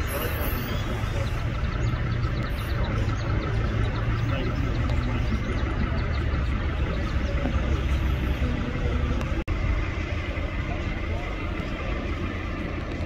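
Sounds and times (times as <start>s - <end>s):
diesel engines rumbling: 0.0s - 13.0s.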